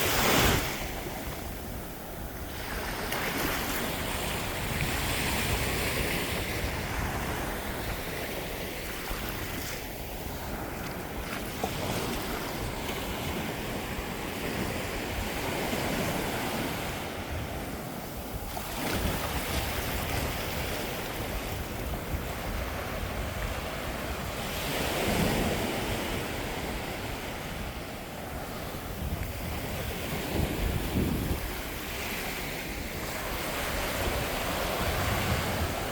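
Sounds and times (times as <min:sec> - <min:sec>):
ocean surf on beach: 0:00.0 - 0:35.9
wind on microphone: 0:00.0 - 0:35.9.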